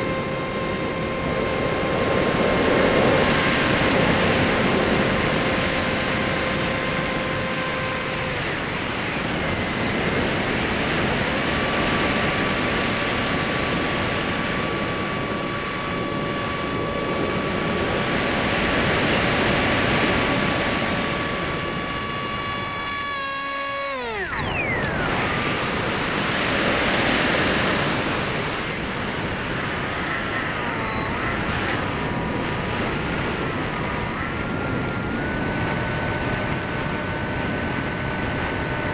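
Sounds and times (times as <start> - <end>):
electric motor and propeller whining: 0.0 - 38.9.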